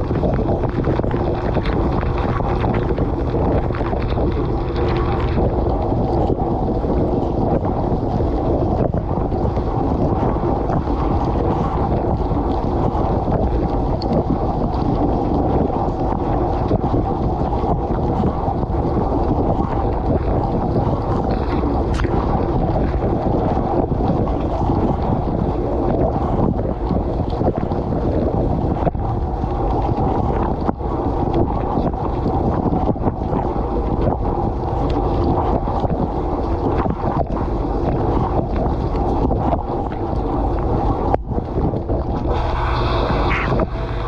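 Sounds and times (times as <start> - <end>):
dishwasher jets splashing water: 0.0 - 44.0.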